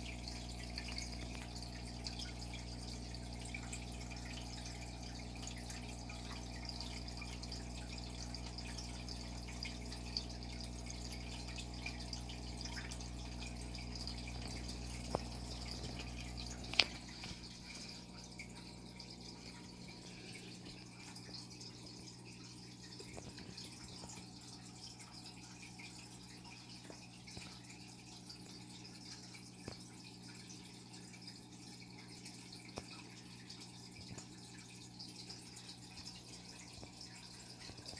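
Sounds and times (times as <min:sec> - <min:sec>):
aquarium water trickling: 0:00.0 - 0:37.9.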